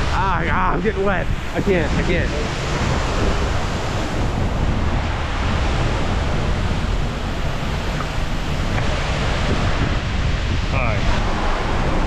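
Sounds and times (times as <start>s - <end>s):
deep rumble: 0.0s - 12.0s
waterfall rushing: 0.0s - 12.0s.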